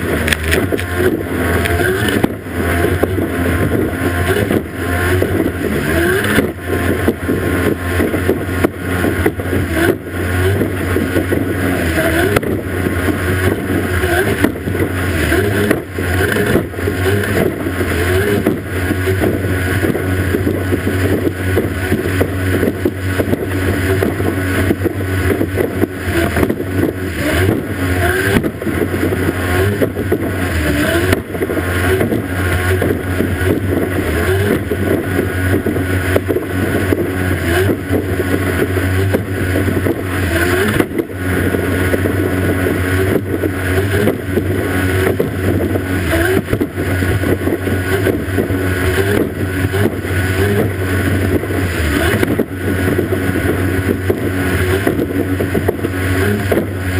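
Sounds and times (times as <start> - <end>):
outboard motor droning: 0.0 - 56.9
water spray rushing: 0.0 - 56.9
wind: 0.0 - 56.9.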